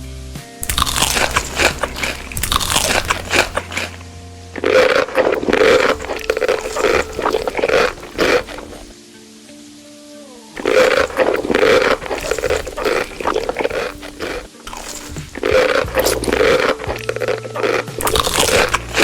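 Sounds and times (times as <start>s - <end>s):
quiet background music: 0.0s - 19.0s
crunchy food chewing: 0.6s - 9.0s, 10.6s - 19.0s.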